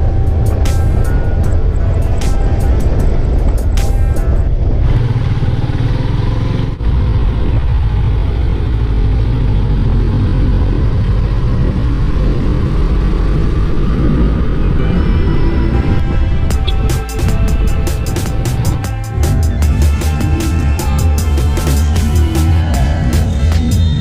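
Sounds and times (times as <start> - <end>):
motorcycle engine: 0.0 - 24.0
road noise: 0.0 - 24.0
wind rumble: 0.0 - 24.0.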